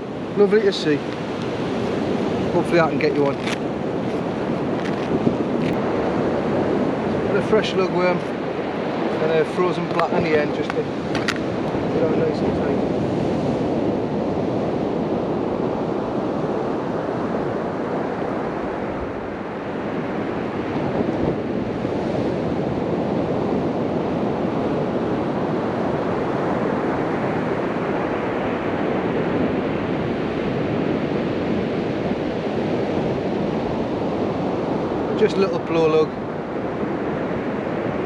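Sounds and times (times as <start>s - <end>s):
sea surf washing onto beach: 0.0s - 38.0s
wind buffeting microphone: 0.0s - 38.0s.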